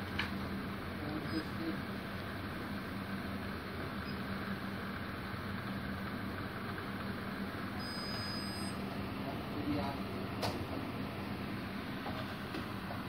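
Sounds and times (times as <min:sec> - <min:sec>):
steady background hum and hiss: 0:00.0 - 0:13.0.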